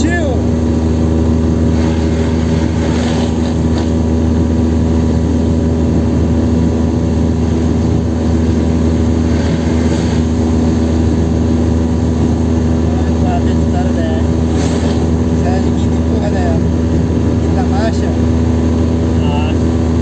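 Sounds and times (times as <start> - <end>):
car engine at steady revs: 0.0 - 20.0
road noise: 0.0 - 20.0.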